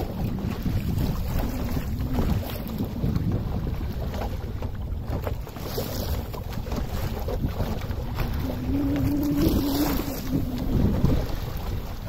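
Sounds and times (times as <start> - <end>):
water washing past boat hull: 0.0 - 12.0
wind buffeting microphone: 0.0 - 12.0.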